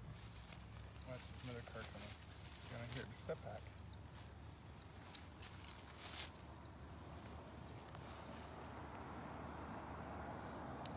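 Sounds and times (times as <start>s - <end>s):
insect chirping: 0.0s - 10.9s.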